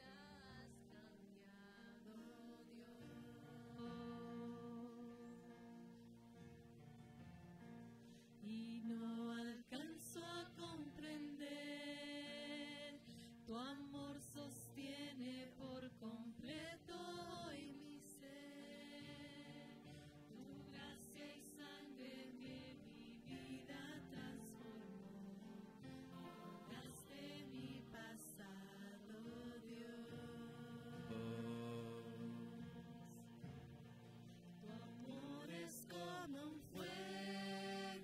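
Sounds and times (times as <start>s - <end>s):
women singing worship song: 0.0s - 5.8s, 8.1s - 33.7s, 34.6s - 38.0s
soft instrumental backing: 0.0s - 38.0s.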